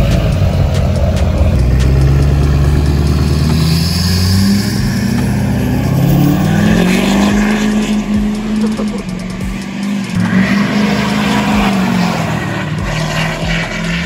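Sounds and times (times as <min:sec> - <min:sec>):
diesel truck accelerating past: 0:00.0 - 0:14.0.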